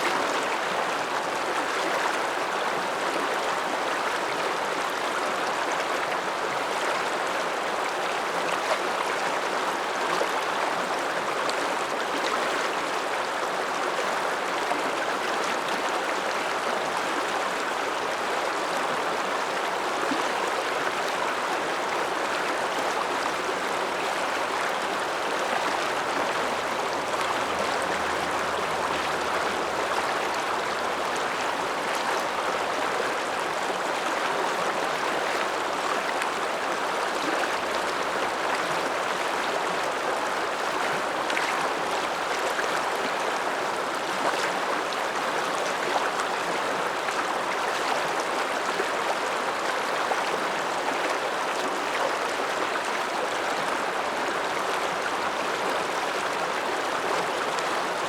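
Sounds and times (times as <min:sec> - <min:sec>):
mountain river rushing: 0:00.0 - 0:58.0.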